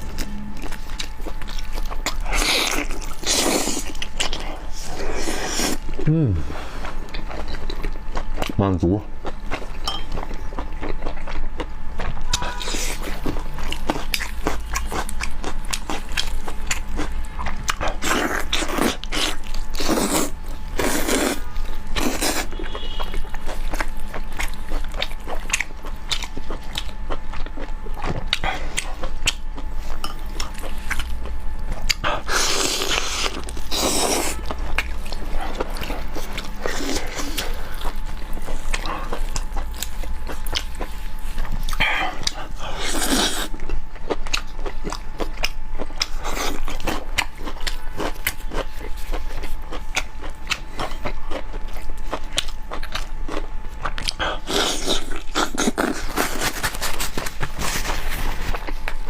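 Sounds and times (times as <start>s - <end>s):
person chewing meat: 0.0s - 59.0s.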